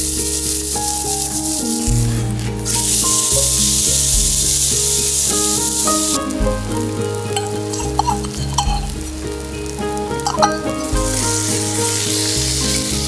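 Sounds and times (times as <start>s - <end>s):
background music: 0.0s - 13.0s
food sizzling in a pan: 0.0s - 13.0s.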